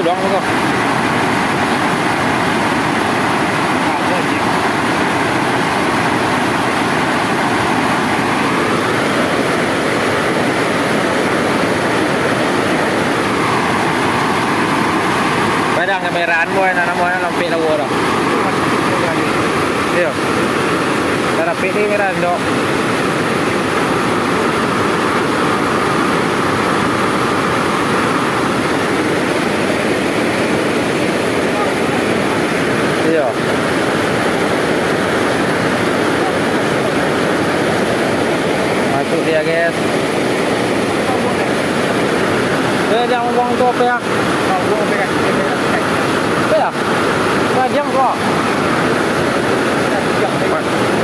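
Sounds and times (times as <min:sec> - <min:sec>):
water rushing over waterfall: 0:00.0 - 0:51.0.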